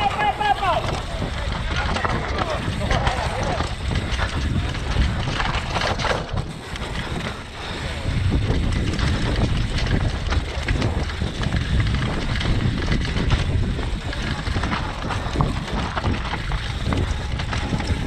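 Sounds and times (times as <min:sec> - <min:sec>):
bike rattling over roots and rocks: 0:00.0 - 0:18.0
wind buffeting microphone: 0:00.0 - 0:18.0.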